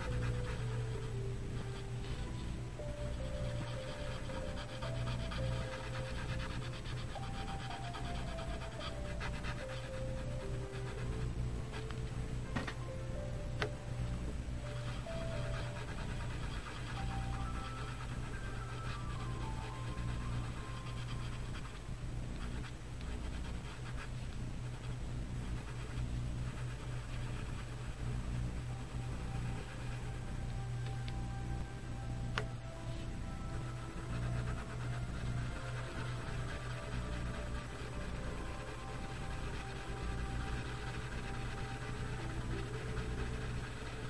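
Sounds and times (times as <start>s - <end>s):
scratchy rubbing on paper: 0.0s - 12.0s, 14.6s - 30.7s, 32.4s - 44.0s
low electrical hum: 0.0s - 44.0s
soft background music: 0.0s - 44.0s.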